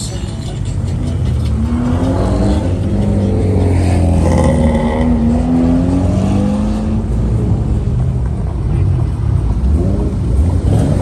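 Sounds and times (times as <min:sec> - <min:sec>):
car engine revving: 0:00.6 - 0:08.0, 0:09.2 - 0:11.0.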